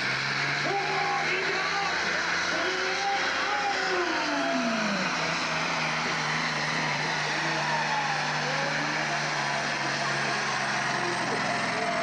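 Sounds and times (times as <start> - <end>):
diesel truck engine under load: 0.0 - 12.0.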